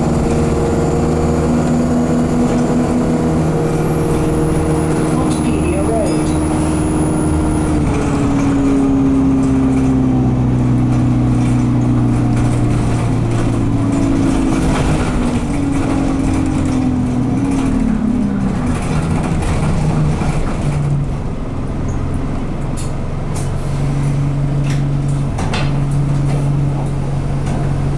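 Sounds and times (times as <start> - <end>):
bus engine: 0.0 - 27.9.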